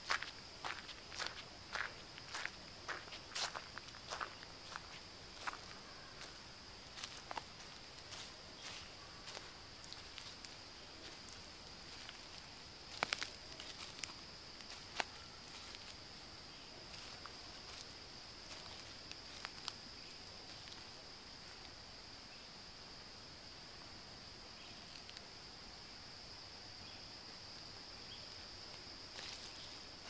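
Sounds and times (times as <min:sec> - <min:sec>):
insects singing: 0:00.0 - 0:23.6, 0:24.3 - 0:30.0.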